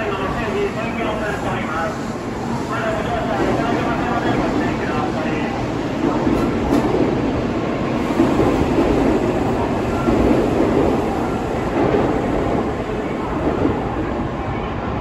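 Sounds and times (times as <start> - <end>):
train wheels rolling on rail: 0.0 - 15.0.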